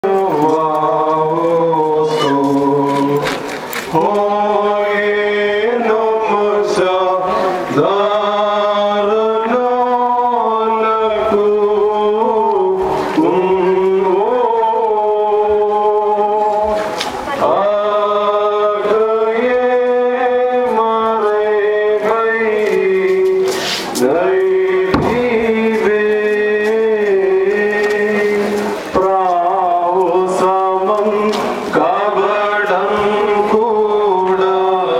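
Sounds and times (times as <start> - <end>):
group chanting in long notes: 0.0 - 34.9.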